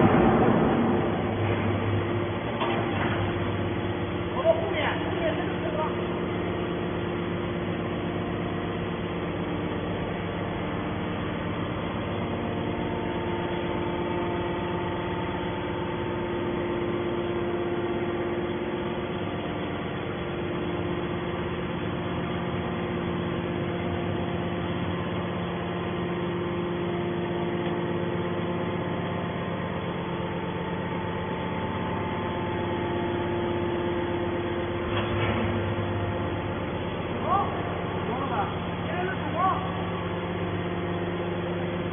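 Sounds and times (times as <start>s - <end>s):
hydraulic baler motor humming: 0.0s - 41.9s.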